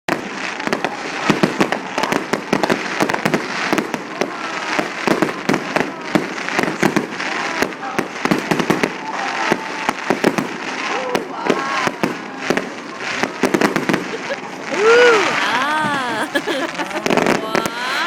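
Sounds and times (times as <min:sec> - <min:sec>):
distant fireworks bangs: 0:00.1 - 0:18.0.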